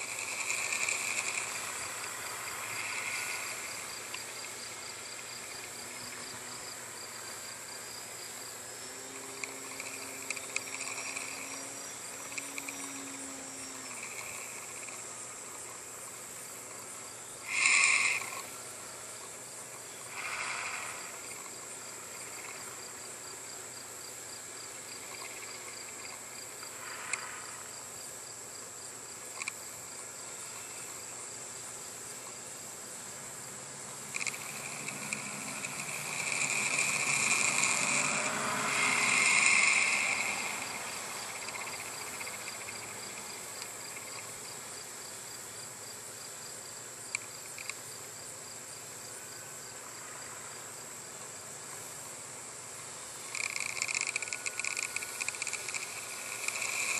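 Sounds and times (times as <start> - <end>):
high-pitched insect drone: 0.0 - 56.9.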